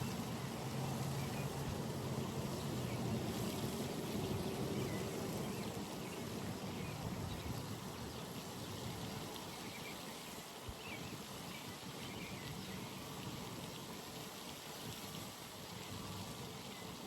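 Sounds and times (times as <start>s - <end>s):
open-air hiss: 0.0s - 17.0s.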